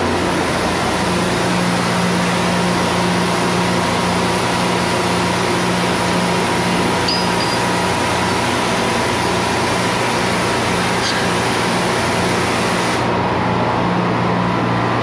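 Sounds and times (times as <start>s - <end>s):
engine room machinery hiss and hum: 0.0s - 15.0s.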